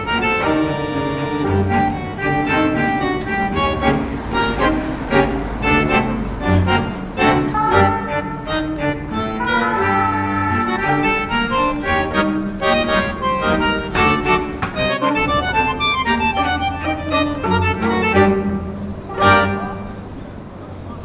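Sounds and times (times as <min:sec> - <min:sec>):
background music melody: 0:00.0 - 0:20.4.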